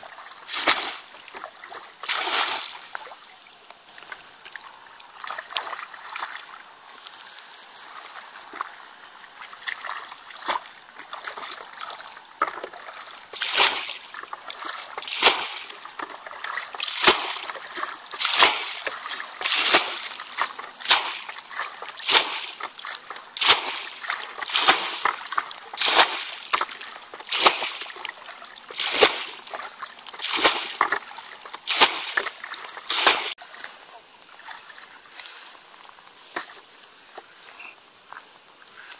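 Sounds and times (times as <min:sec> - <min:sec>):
basin scooping water: 0:00.0 - 0:06.8, 0:08.0 - 0:33.7
water splashing: 0:00.0 - 0:06.9, 0:07.9 - 0:35.1.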